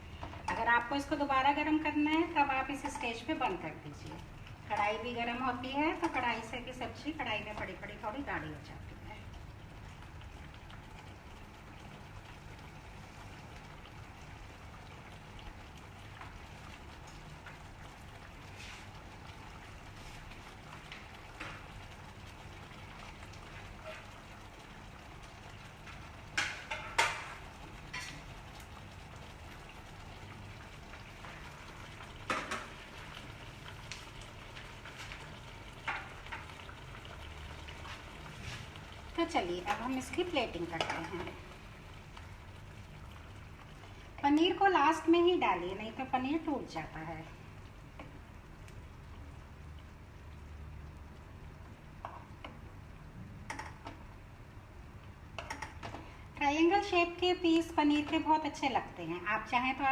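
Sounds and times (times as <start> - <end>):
gravy simmering and bubbling: 0.0 - 59.9.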